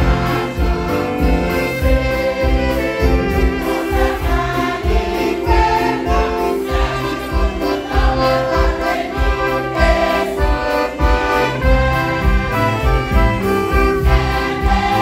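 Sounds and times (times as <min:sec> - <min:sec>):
women's choir singing a hymn: 0:00.0 - 0:12.6, 0:13.2 - 0:15.0
accordion: 0:00.0 - 0:15.0
low beat: 0:00.0 - 0:15.0
trumpet: 0:00.0 - 0:15.0.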